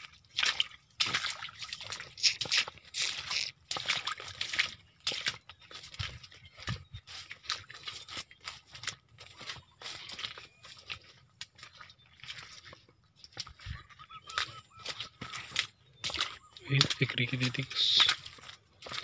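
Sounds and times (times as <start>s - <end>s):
leaves and stalks rustling: 0.6s - 19.0s.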